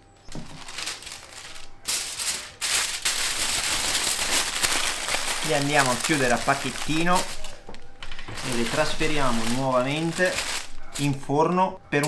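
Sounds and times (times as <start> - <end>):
aluminium foil crinkling: 0.3 - 11.8.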